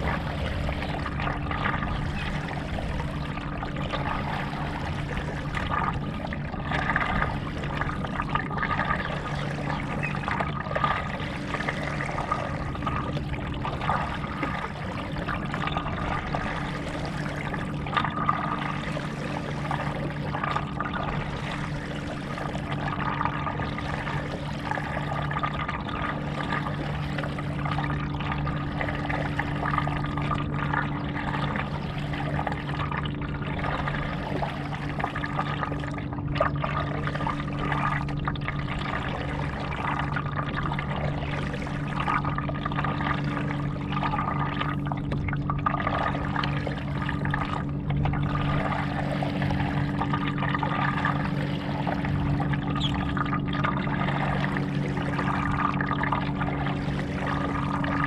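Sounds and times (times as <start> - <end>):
paddle splashing in water: 0.0 - 58.0
steady low hum: 0.0 - 58.0.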